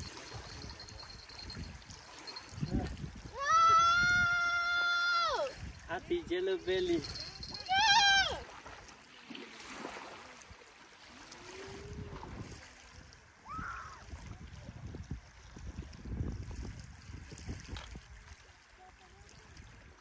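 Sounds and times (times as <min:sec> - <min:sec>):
wind rumbling on microphone: 0:00.0 - 0:08.4, 0:11.4 - 0:20.0
moving water: 0:00.0 - 0:20.0
wind: 0:00.0 - 0:20.0.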